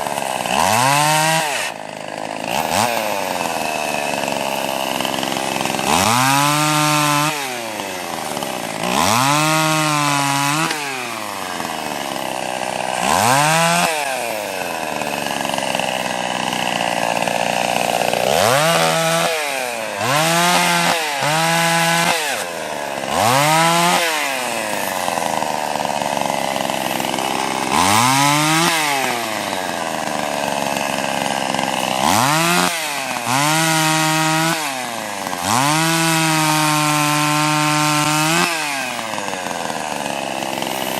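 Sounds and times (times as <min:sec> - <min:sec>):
chainsaw revving and cutting: 0:00.0 - 0:40.9.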